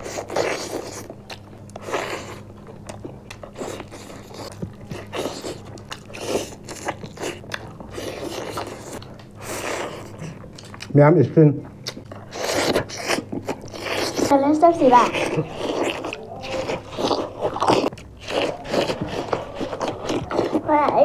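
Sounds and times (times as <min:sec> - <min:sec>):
chewing crunchy fried chicken: 0:00.0 - 0:21.0.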